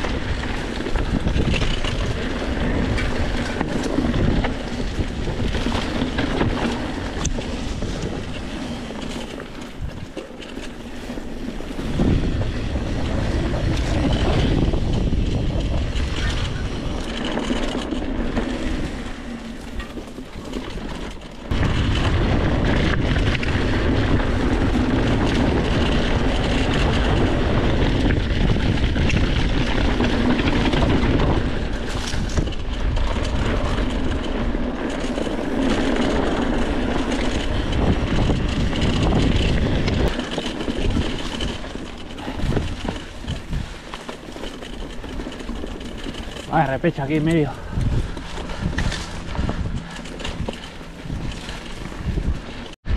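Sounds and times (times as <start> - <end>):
wind rushing over microphone: 0.0 - 10.2, 10.8 - 20.9, 21.5 - 52.9
bike rattle: 0.0 - 52.9
tyre noise on dirt: 0.0 - 52.9.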